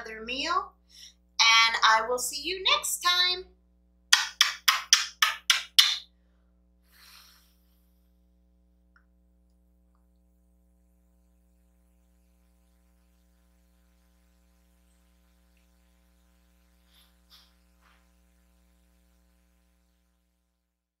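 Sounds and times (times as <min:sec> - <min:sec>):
low electrical hum: 0:00.0 - 0:20.9.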